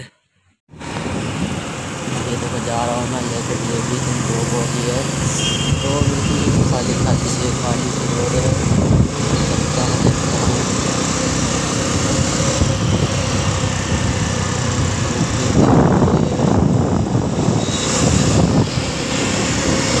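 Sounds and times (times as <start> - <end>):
wind buffeting microphone: 0.7 - 20.0
small motorcycle engine running: 1.2 - 20.0.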